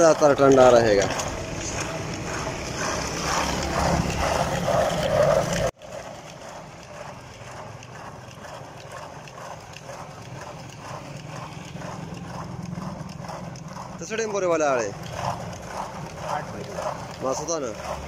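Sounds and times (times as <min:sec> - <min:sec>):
ice grinding against metal pot: 0:00.0 - 0:18.0.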